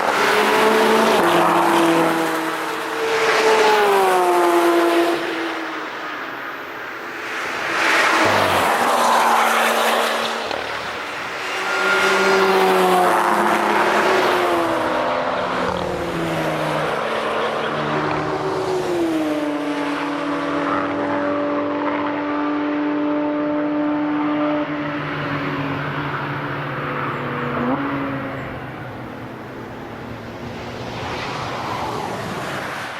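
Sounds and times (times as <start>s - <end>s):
cars passing at speed: 0.0s - 32.9s.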